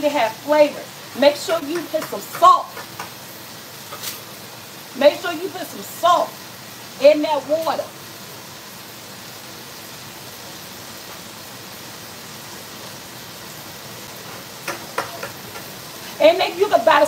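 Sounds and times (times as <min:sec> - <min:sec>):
pot of water boiling: 0:00.0 - 0:17.0
sausage sizzling in a skillet: 0:00.0 - 0:17.0.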